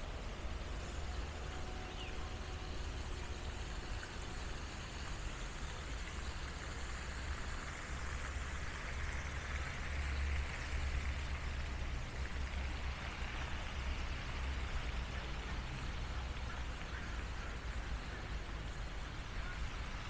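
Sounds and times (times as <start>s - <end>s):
fountain spray splashing on water: 0.0s - 20.0s.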